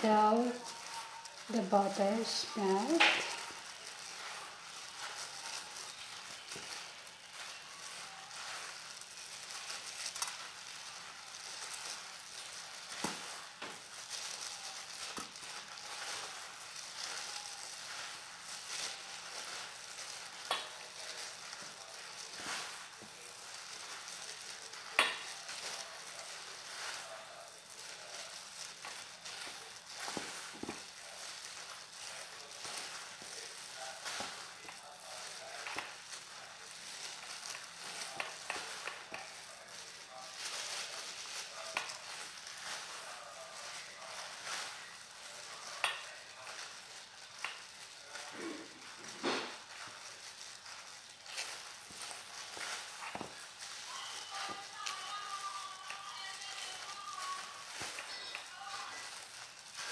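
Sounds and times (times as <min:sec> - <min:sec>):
hand rubbing butter into flour: 0:00.0 - 0:59.9.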